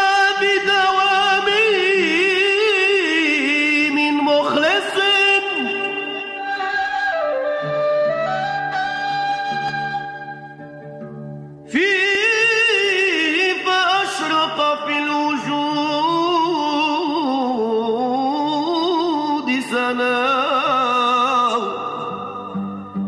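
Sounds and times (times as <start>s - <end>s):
man singing melismatic phrases: 0.0s - 8.8s, 11.6s - 23.0s.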